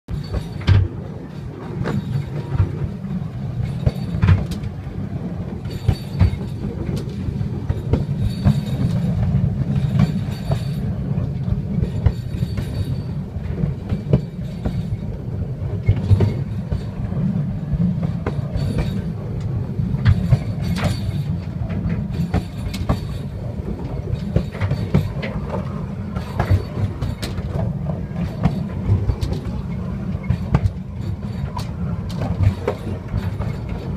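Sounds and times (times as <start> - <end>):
electric train rumbling: 0.1 - 33.9
wheels clicking over rail joints: 0.1 - 33.9.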